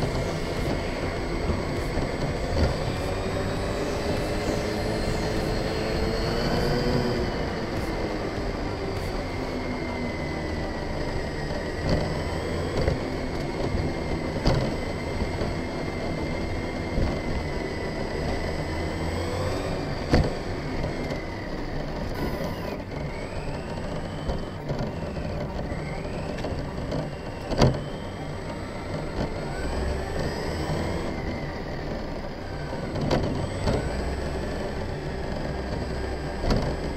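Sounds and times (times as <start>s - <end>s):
toy truck drivetrain whine: 0.0s - 36.9s
tyres rumbling on path: 0.0s - 36.9s.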